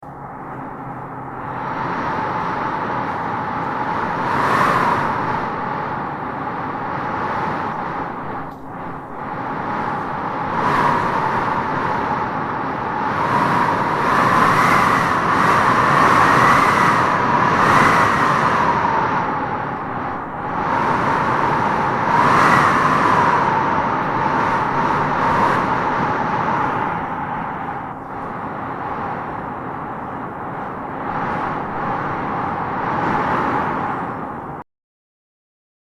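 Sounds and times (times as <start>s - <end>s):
strong wind howling in gusts: 0.0s - 34.6s.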